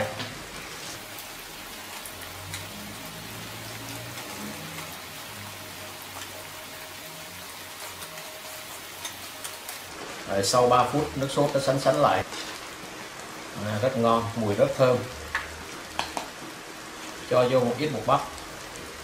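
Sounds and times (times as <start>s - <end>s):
sauce sizzling in a wok: 0.0s - 19.0s.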